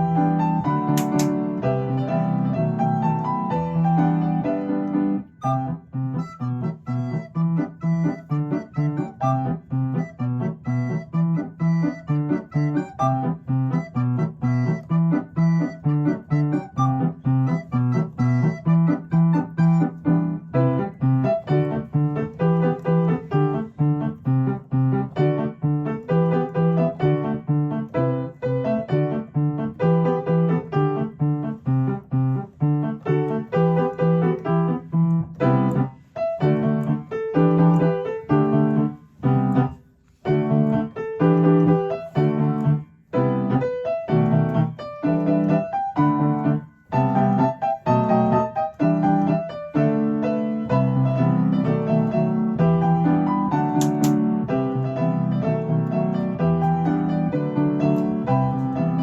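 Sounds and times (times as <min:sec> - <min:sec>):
piano playing pop chords: 0:00.0 - 0:59.0.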